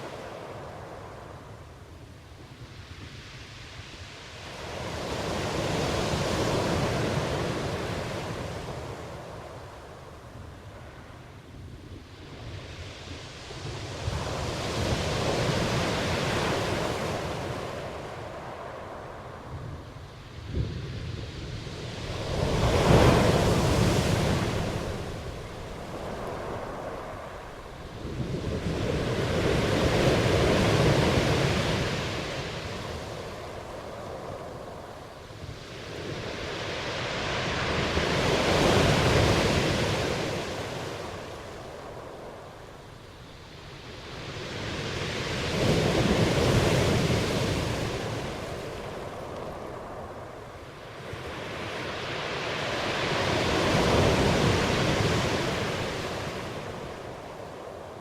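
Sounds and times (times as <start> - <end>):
ocean waves surf: 0.0 - 58.0.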